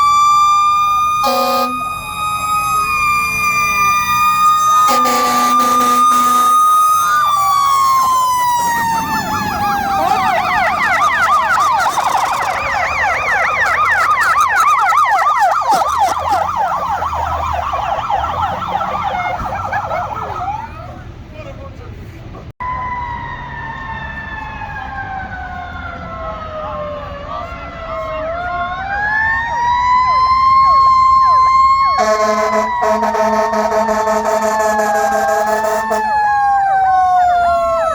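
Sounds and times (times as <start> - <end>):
fire engine siren wailing: 0.0 - 21.2, 22.6 - 37.9
fire engine siren yelping: 0.0 - 21.2, 22.6 - 37.9.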